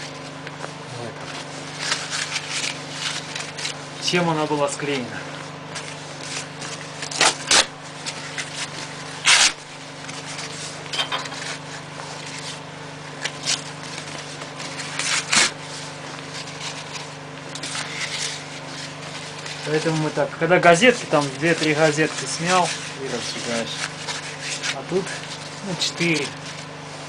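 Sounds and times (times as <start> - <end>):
kindling and paper clicking: 0.0 - 27.0
steady low hum: 0.0 - 27.0.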